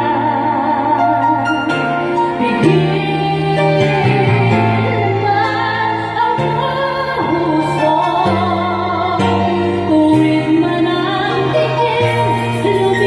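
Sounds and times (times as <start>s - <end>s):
instrumental backing track: 0.0s - 13.0s
woman singing with vibrato: 0.0s - 13.0s.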